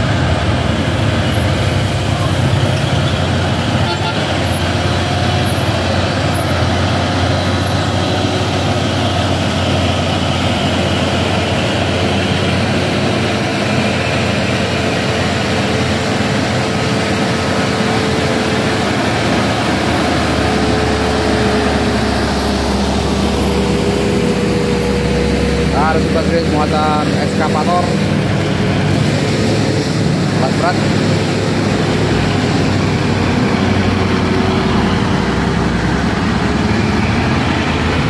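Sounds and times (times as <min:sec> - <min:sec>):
road traffic hum: 0:00.0 - 0:38.0
truck diesel engine passing: 0:00.0 - 0:38.0.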